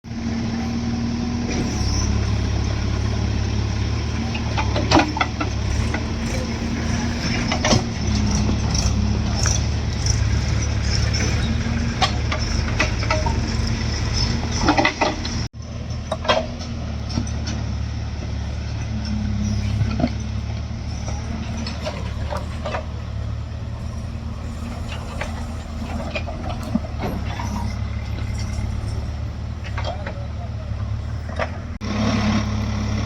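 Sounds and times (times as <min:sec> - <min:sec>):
diesel engines running: 0:00.1 - 0:33.0
knocks and clanks: 0:01.6 - 0:17.8, 0:18.7 - 0:30.5.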